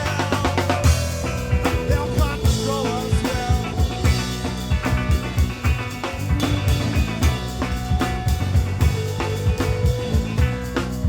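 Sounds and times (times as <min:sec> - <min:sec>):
drums steady driving beat: 0:00.0 - 0:11.0
live rock band playing: 0:00.0 - 0:11.0.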